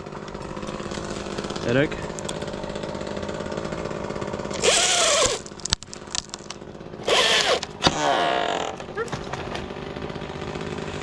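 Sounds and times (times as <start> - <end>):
chainsaw idling and revving: 0.0 - 11.0.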